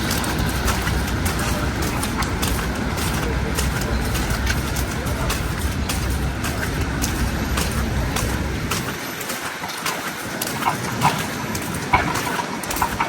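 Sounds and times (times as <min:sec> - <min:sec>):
city street noise: 0:00.0 - 0:13.0
footsteps crunching in snow: 0:00.0 - 0:13.0.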